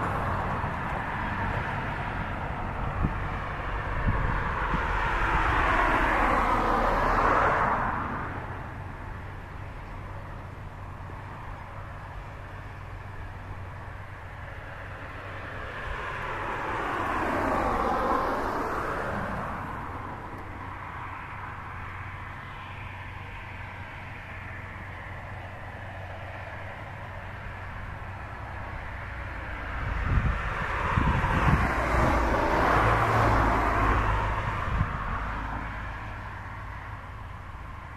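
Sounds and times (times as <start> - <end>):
passing vehicle: 0.0 - 37.9.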